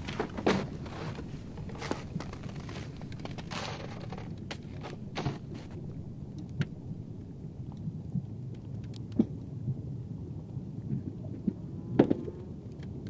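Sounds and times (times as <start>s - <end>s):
low rumble of ice: 0.0s - 13.0s.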